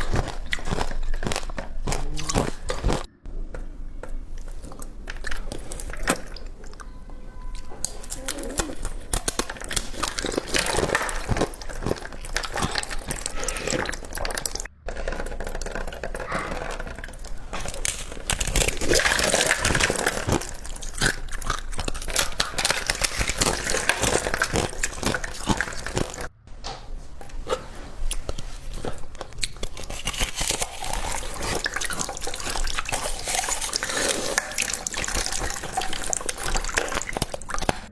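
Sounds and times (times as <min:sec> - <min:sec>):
ice being crunched by teeth: 0:00.0 - 0:03.1, 0:07.8 - 0:26.3, 0:28.2 - 0:37.9.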